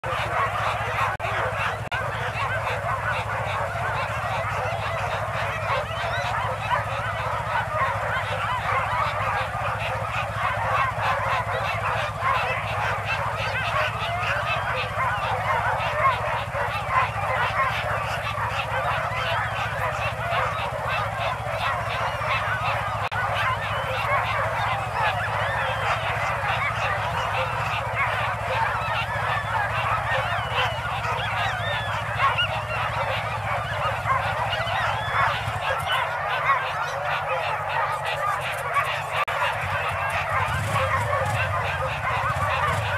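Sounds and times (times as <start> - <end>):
dogs yelping and howling: 0.0 - 42.9.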